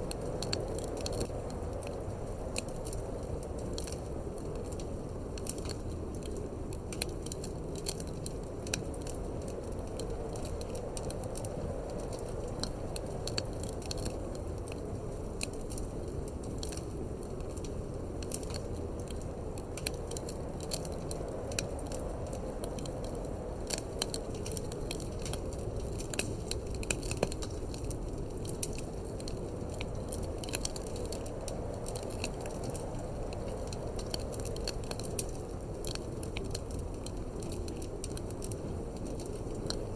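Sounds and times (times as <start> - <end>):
low rush of wind: 0.0 - 39.9
wood fire crackling: 0.0 - 39.9
sharp pops and snaps: 0.1 - 39.9.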